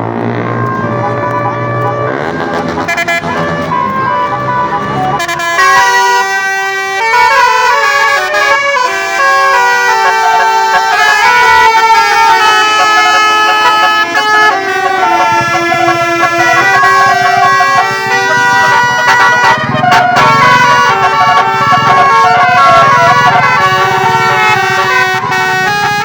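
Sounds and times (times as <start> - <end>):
bus horn playing melody: 0.0 - 26.0.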